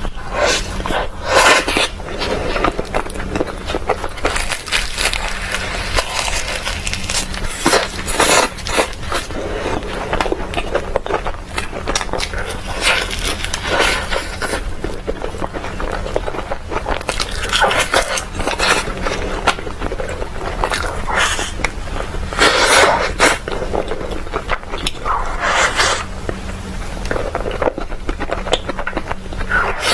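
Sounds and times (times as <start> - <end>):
chewing crisp sweets: 0.0 - 29.9.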